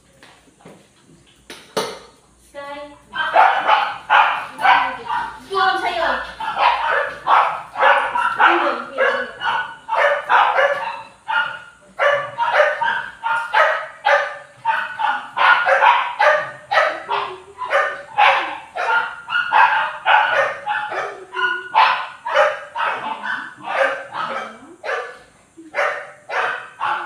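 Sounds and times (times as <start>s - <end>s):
dog barking: 3.1s - 27.0s.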